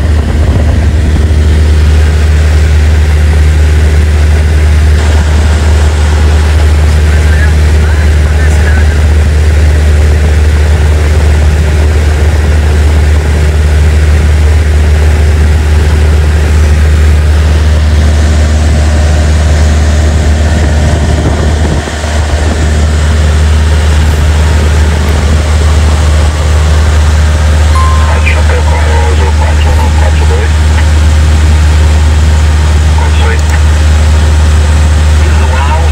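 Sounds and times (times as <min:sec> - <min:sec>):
airplane engine droning: 0:00.0 - 0:35.9.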